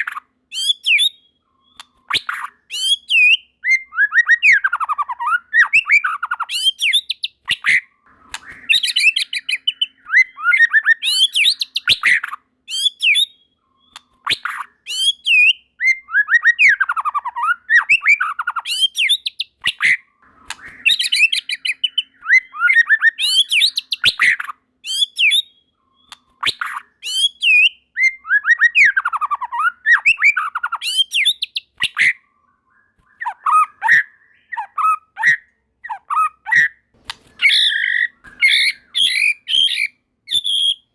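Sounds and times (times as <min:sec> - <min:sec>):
songbird whistles trills and clicks: 0:00.0 - 0:40.9.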